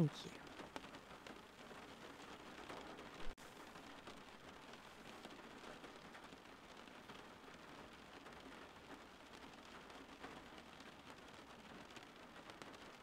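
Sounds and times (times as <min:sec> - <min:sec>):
faint rain: 0:00.0 - 0:13.0.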